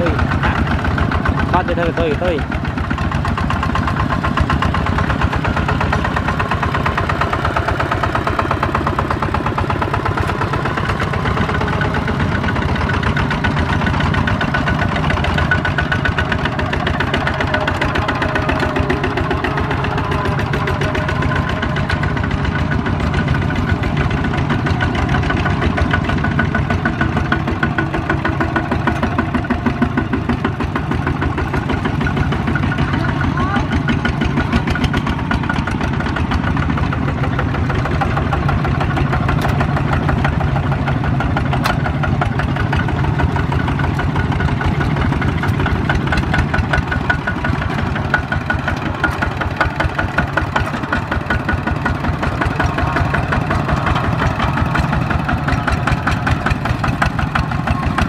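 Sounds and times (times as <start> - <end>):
diesel tractor engines chugging: 0.0 - 58.0.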